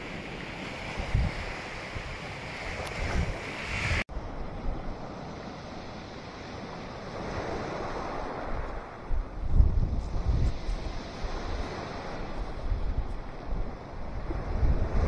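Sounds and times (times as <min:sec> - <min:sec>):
waves washing up shingle beach: 0:00.0 - 0:04.0, 0:04.7 - 0:15.0
wind buffeting microphone: 0:00.0 - 0:15.0.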